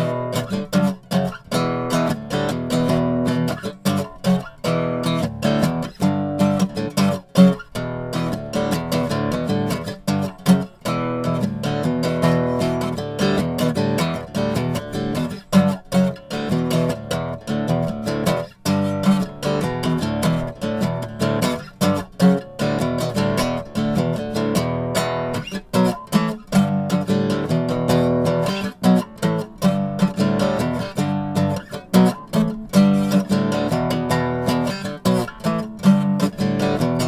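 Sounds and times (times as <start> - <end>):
strummed acoustic guitar: 0.0 - 37.0.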